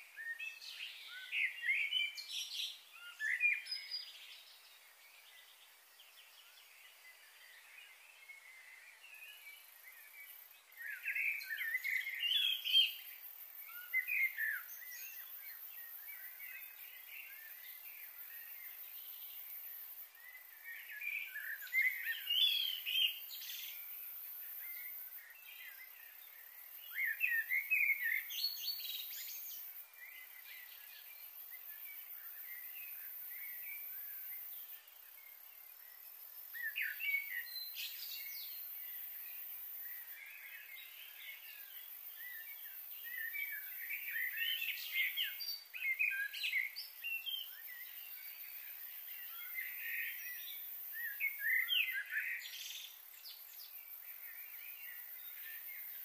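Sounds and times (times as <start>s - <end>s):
faint high hiss: 0.0s - 56.0s.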